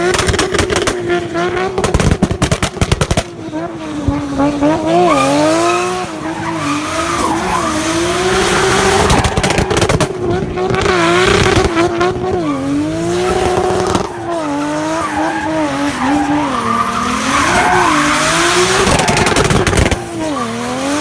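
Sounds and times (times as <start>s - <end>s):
car engine revving hard: 3.5s - 21.0s.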